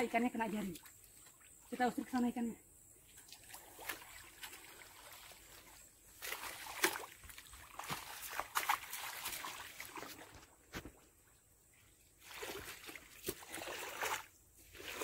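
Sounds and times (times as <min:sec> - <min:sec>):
pond water splashing and sloshing: 0:00.0 - 0:15.0.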